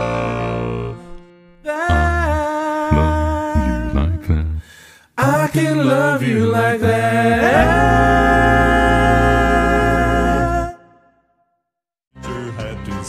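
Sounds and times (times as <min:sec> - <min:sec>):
male voices singing a chord: 0:00.0 - 0:04.6, 0:05.2 - 0:11.1.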